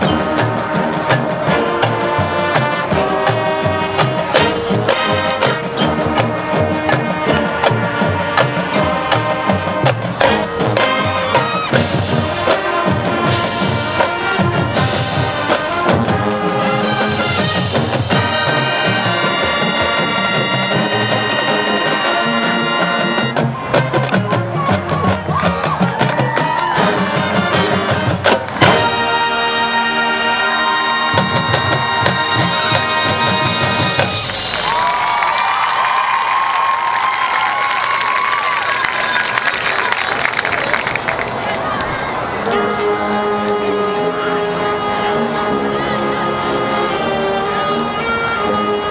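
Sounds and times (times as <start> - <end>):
marching band playing: 0.0 - 48.9.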